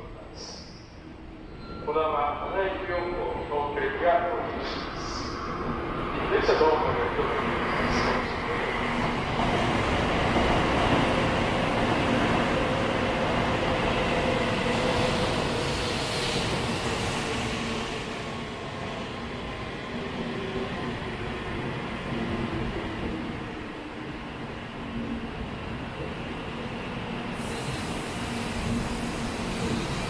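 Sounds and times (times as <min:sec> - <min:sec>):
train rumbling to a stop: 0:00.0 - 0:30.0.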